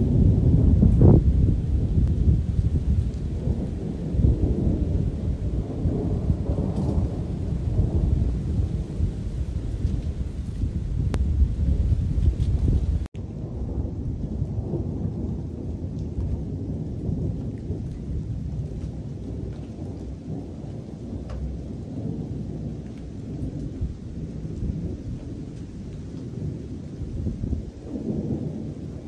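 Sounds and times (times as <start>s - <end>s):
rain: 0.0s - 29.0s
thunder rumbling: 0.0s - 29.0s.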